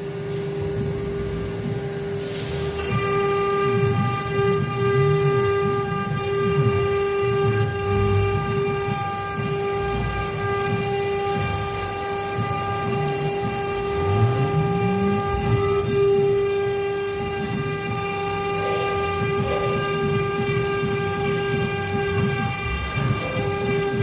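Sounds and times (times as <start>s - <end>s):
axis drives whirring: 0.0s - 24.0s
spindle high whine: 0.0s - 24.0s.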